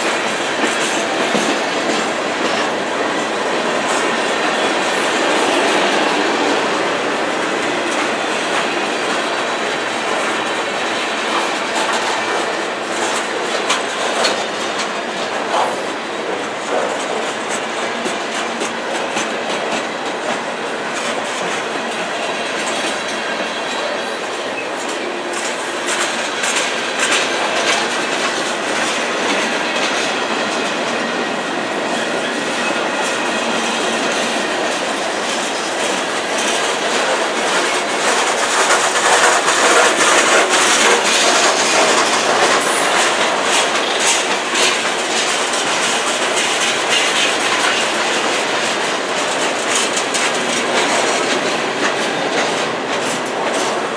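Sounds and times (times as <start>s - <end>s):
freight train cars rolling: 0.0s - 53.9s
wheels clacking over rail joints: 0.0s - 53.9s.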